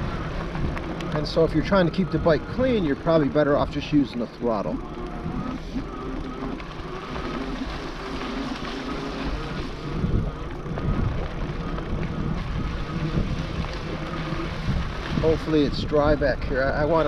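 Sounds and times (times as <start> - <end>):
rolling rumble of tyres and wind: 0.0 - 17.0.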